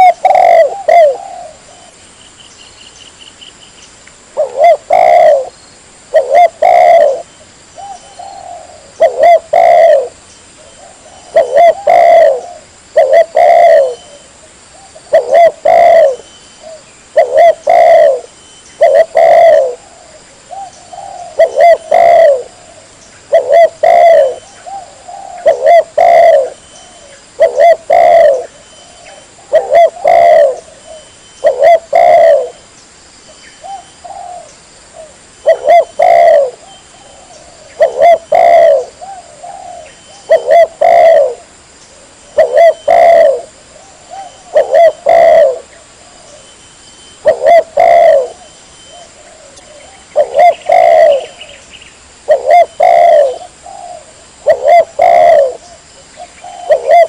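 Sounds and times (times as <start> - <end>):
dove cooing: 0.0 - 2.0, 4.4 - 32.6, 33.6 - 57.0.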